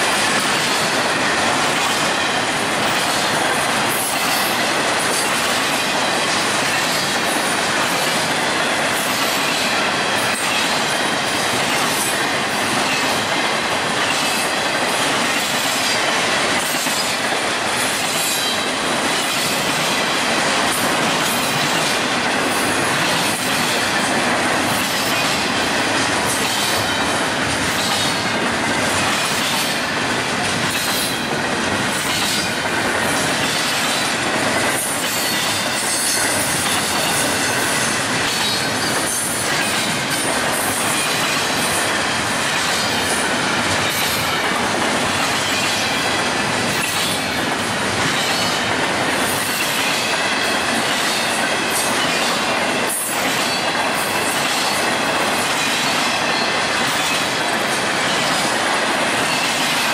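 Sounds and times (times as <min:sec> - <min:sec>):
train wheel clacks: 0:00.0 - 0:59.9
train wheels rumbling on rail: 0:00.0 - 0:59.9.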